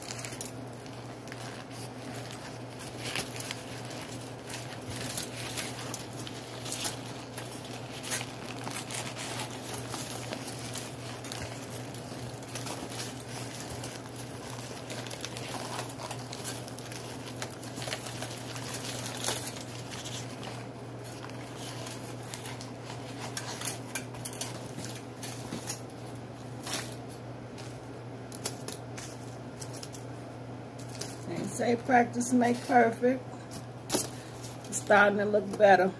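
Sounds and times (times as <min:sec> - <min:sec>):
bits pattering onto foil: 0:00.0 - 0:30.1, 0:30.8 - 0:33.0, 0:33.9 - 0:35.9
chalky chunks crunching and crumbling: 0:00.0 - 0:30.1
low steady hum: 0:00.0 - 0:35.9.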